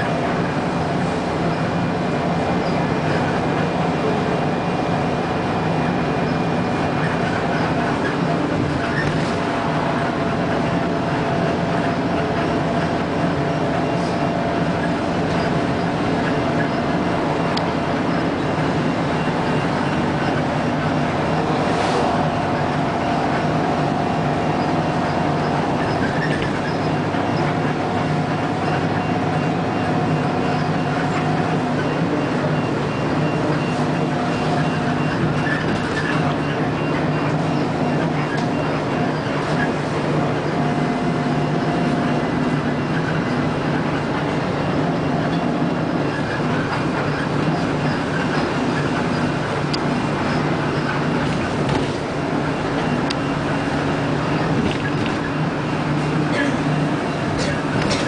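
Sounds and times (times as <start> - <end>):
vehicle running noise: 0.0 - 58.0.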